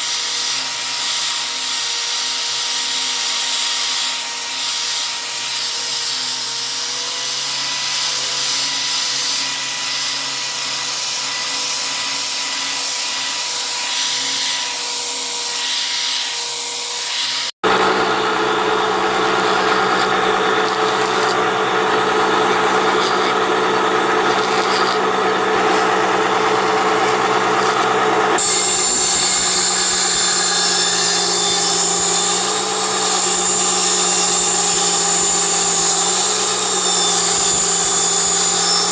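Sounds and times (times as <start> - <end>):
power tool cutting wood: 0.0 - 38.9.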